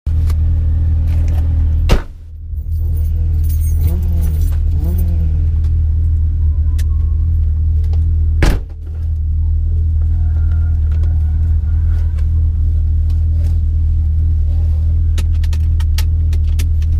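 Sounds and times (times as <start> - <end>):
car engine running: 0.1 - 16.9.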